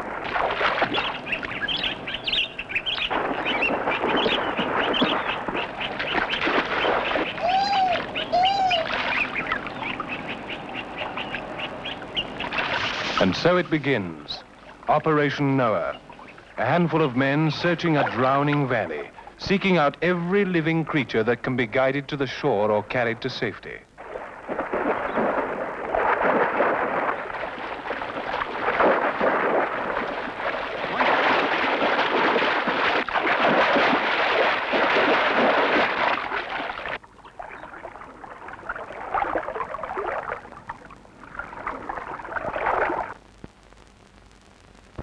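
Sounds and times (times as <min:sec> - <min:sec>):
water splashing and churning: 0:00.0 - 0:19.8, 0:24.0 - 0:43.2.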